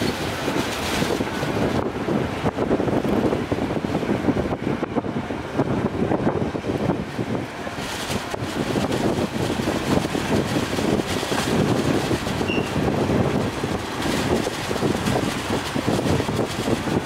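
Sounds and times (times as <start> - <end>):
ferry engine rumble: 0.0 - 17.0
wind buffeting microphone: 0.0 - 17.0.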